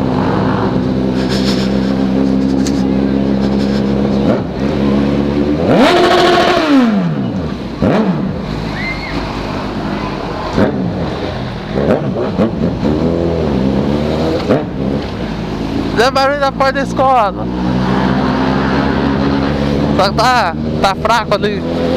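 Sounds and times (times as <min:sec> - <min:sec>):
engine revving hard: 0:00.0 - 0:21.9.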